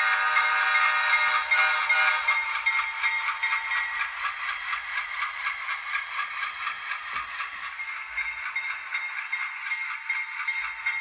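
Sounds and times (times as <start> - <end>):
model train clattering on track: 0.0 - 11.0.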